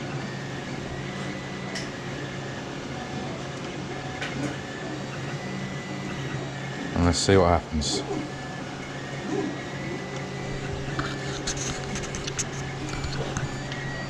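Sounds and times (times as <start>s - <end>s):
low fan hum: 0.0s - 14.0s.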